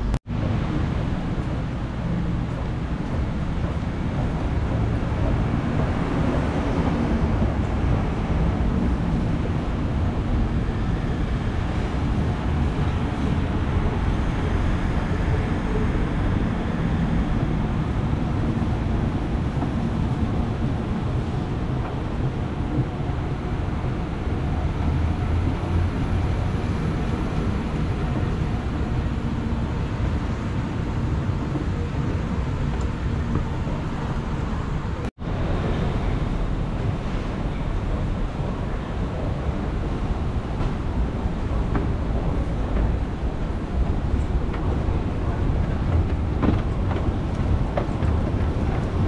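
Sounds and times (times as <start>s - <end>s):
escalator rumble and hum: 0.0s - 49.0s.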